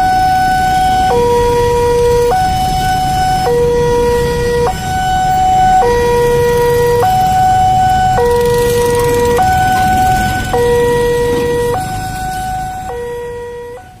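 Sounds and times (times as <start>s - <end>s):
idling traffic rumble: 0.0s - 14.0s
level crossing two-tone alarm: 0.0s - 14.0s.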